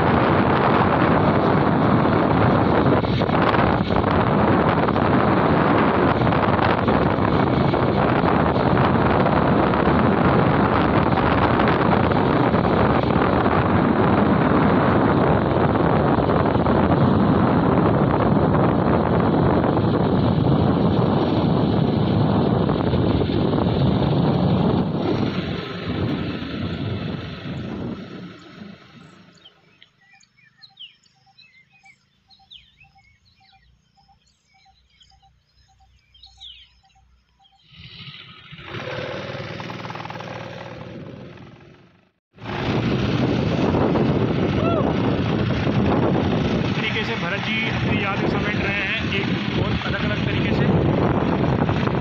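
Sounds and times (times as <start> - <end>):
wind buffeting microphone: 0.0 - 41.7, 42.3 - 52.0.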